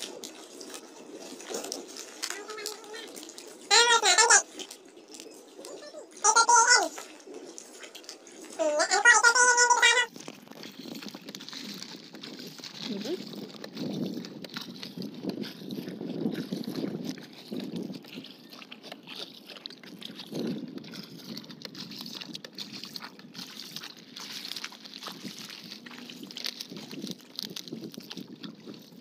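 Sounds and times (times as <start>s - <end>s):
paddle dipping in water: 0.0s - 8.6s, 9.3s - 29.0s
water lapping against hull: 0.0s - 29.0s.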